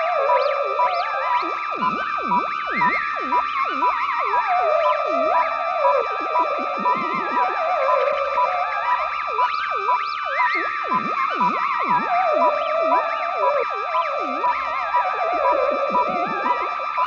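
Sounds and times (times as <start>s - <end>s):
wavering siren-like synth tones: 0.0s - 17.0s.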